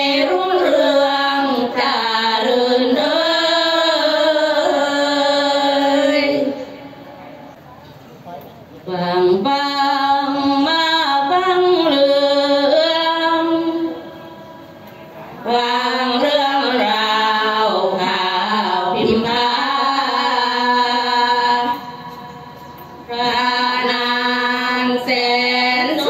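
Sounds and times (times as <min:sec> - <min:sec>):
women chanting unaccompanied: 0:00.0 - 0:07.1, 0:08.9 - 0:14.4, 0:15.4 - 0:22.1, 0:23.1 - 0:26.0.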